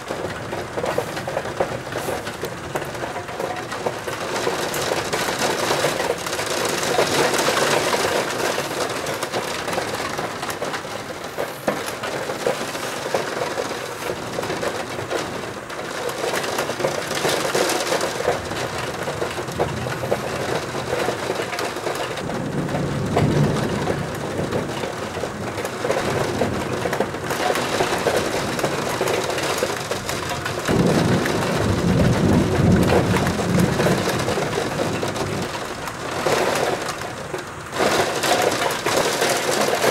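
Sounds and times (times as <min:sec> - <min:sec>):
heavy rain patter: 0:00.0 - 0:39.9
thunder rumbling: 0:00.0 - 0:39.9.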